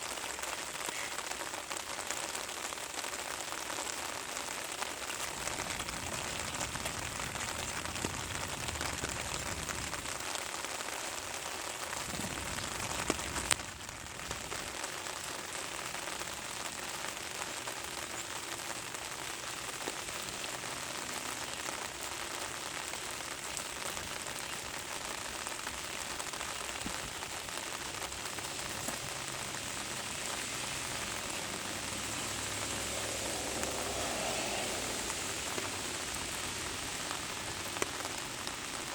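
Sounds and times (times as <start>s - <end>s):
rain pattering on ground: 0.0s - 38.9s.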